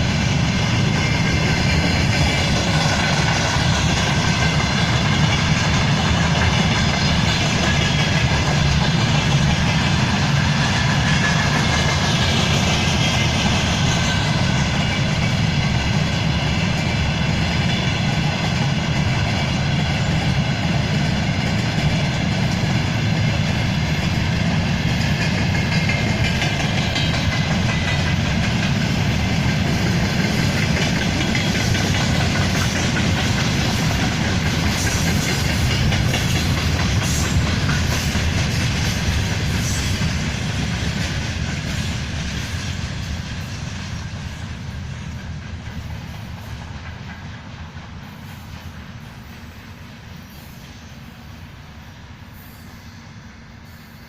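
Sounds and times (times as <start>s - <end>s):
train wheels clacking over rail joints: 0.0s - 49.8s.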